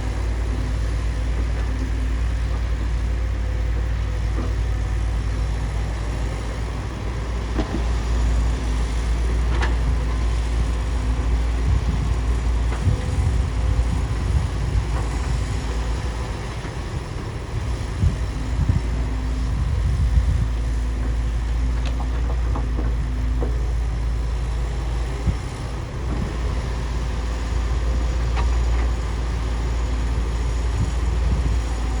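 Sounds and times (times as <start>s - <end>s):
bulldozer diesel engine droning: 0.0s - 32.0s.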